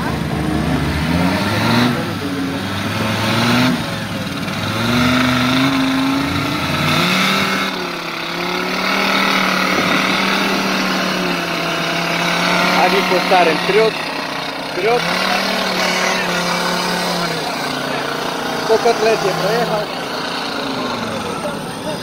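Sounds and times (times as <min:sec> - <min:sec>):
engines revving hard: 0:00.0 - 0:22.0.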